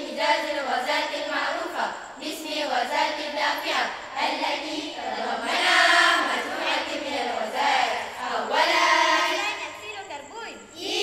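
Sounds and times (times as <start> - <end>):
girls' choir chanting: 0.0 - 11.0.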